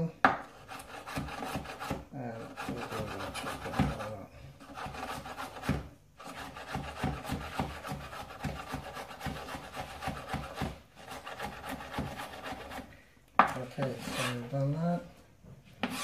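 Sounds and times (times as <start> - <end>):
knife chopping on wooden board: 0.2 - 2.0, 2.6 - 13.6, 15.8 - 16.0.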